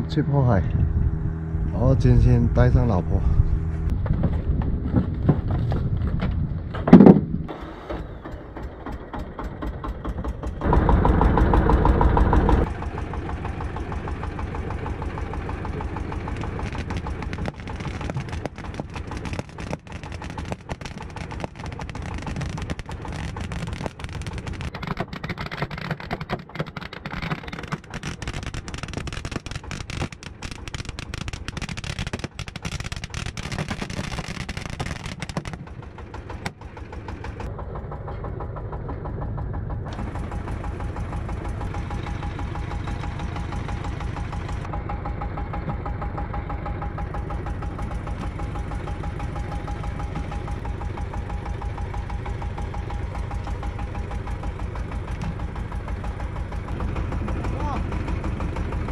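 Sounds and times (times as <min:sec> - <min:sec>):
boat engine ticking: 0:08.3 - 0:58.9.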